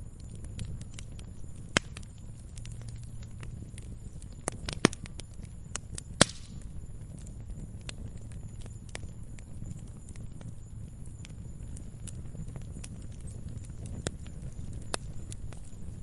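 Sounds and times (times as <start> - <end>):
fire hissing: 0.0 - 16.0
wood fire crackling: 0.0 - 16.0.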